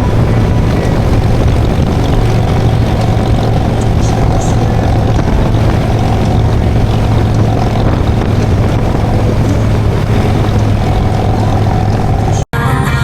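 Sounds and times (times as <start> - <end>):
wind rushing over microphone: 0.0 - 12.5
motorcycle engine cruising: 0.0 - 13.0.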